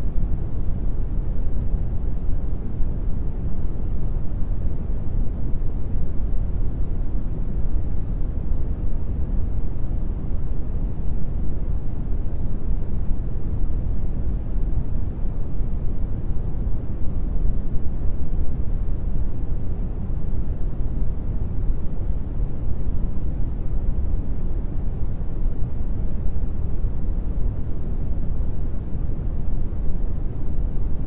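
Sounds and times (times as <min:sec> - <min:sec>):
brown noise hiss: 0:00.0 - 0:31.0.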